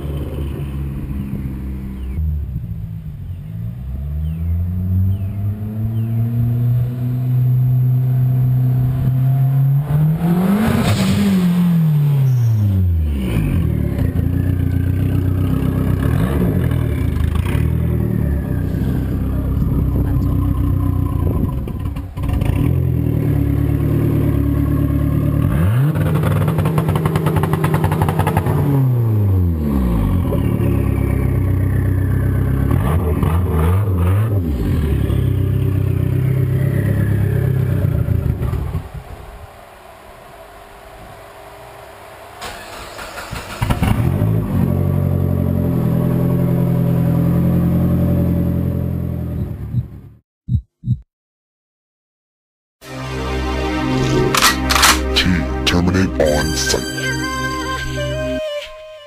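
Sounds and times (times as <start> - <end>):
car engine pulling hard and revving: 0.0 - 50.2.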